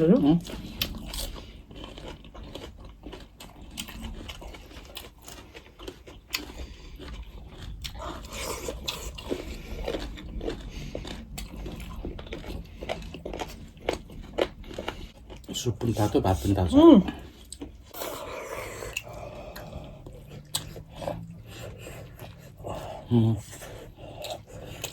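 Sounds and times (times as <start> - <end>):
person chewing: 0.0 - 24.9.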